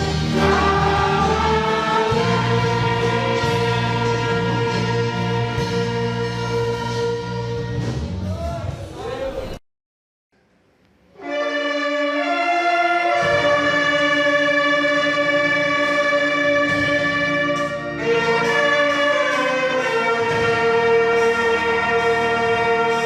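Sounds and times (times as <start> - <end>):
orchestra playing a hymn: 0.0 - 8.1, 11.2 - 23.0.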